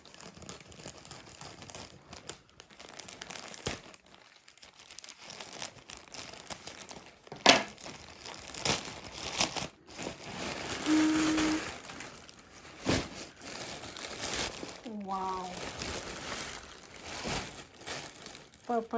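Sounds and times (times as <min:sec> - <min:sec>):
packaging crinkling and rustling: 0:00.0 - 0:18.9
packaging tearing: 0:00.0 - 0:18.9.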